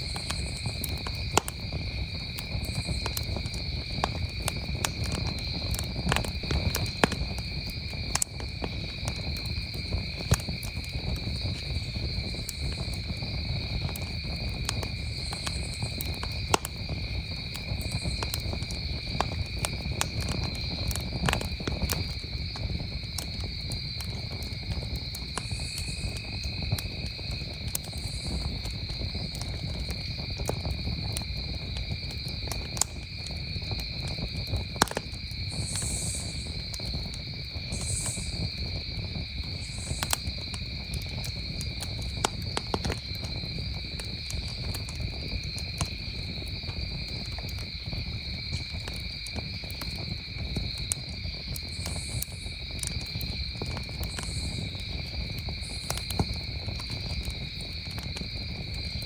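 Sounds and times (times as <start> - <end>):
campfire crackling and popping: 0.0 - 59.0
crickets trilling: 0.0 - 59.0
high insect call: 0.0 - 59.0.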